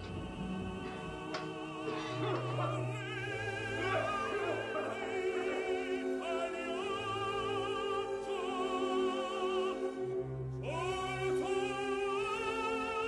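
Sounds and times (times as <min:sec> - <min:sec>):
operatic singer with vibrato: 0:00.0 - 0:13.0
orchestral accompaniment: 0:00.0 - 0:13.0.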